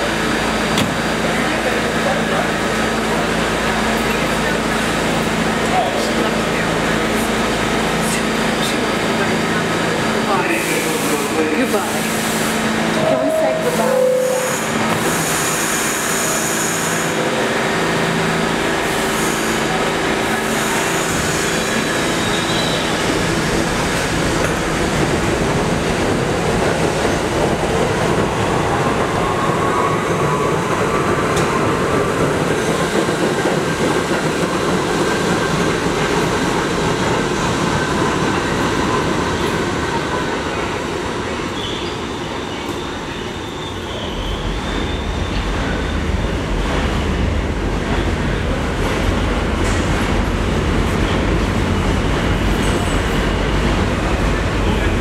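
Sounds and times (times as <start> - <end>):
subway train rail and wheel noise: 0.0 - 55.0.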